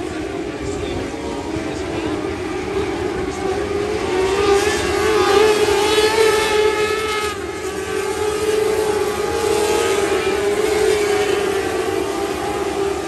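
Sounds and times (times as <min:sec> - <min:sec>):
race car engines whining: 0:00.0 - 0:13.0.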